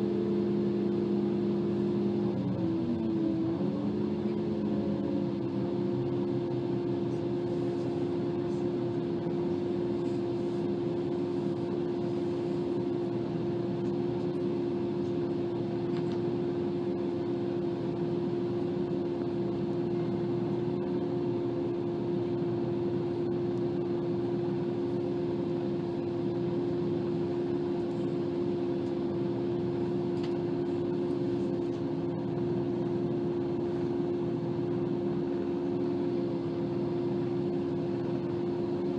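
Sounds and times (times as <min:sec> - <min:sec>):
train engine droning: 0:00.0 - 0:38.9.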